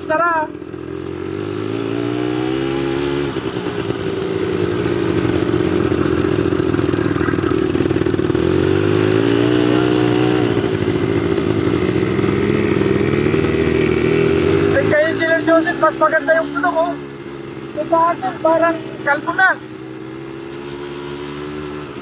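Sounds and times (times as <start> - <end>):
atv engine accelerating: 0.0 - 22.0.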